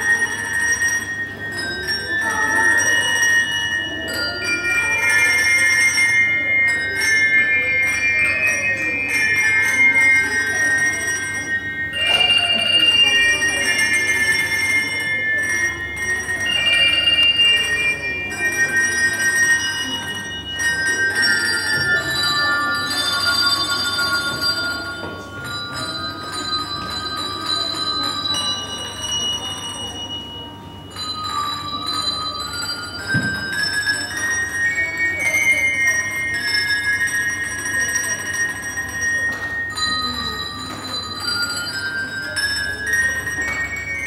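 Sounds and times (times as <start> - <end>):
handbells playing a melody: 0.0 - 44.0.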